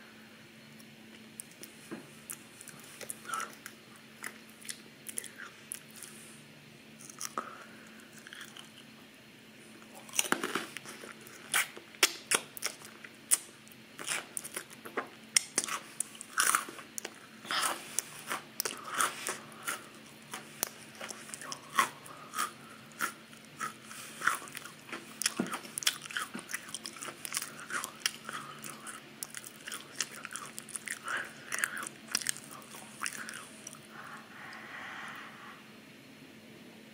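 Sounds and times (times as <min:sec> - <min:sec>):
crackers crunching: 0:01.1 - 0:06.2, 0:07.0 - 0:08.9, 0:09.8 - 0:33.9.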